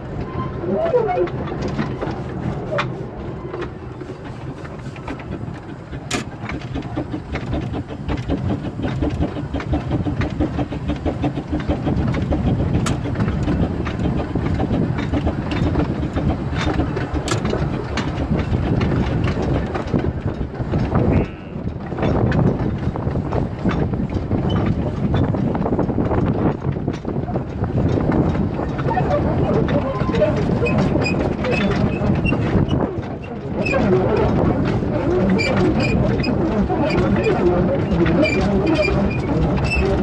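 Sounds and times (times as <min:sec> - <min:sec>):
steam locomotive running: 0:00.0 - 0:40.0.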